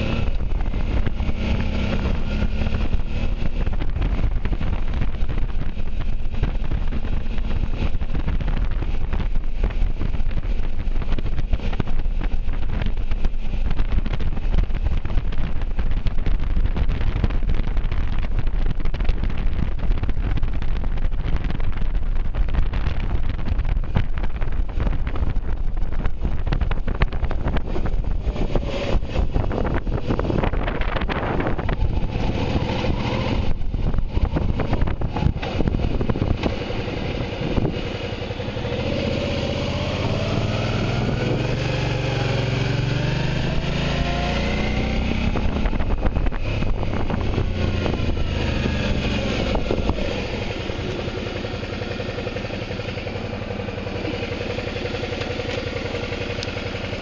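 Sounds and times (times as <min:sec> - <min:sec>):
motorcycle engine: 0:00.0 - 0:57.0
wind buffeting microphone: 0:00.0 - 0:57.0.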